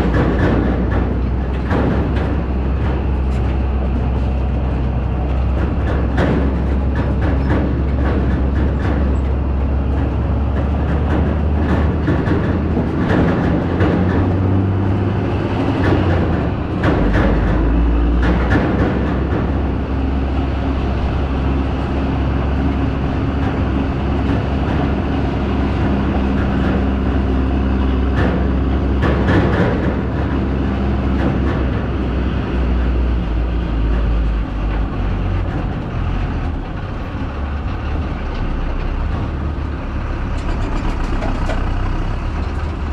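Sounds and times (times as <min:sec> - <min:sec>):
rattles and clanks: 0:00.0 - 0:42.9
vehicle engine humming: 0:00.0 - 0:42.9.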